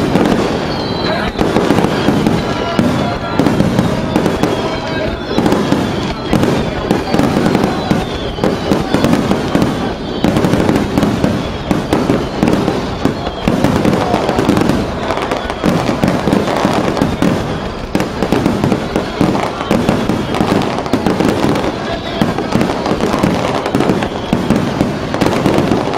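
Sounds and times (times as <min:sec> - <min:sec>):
fireworks bursting and crackling: 0:00.0 - 0:25.9.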